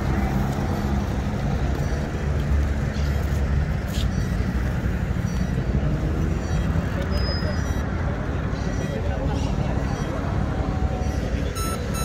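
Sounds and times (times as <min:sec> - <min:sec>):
road noise: 0:00.0 - 0:12.0
vehicle engines running: 0:00.0 - 0:12.0.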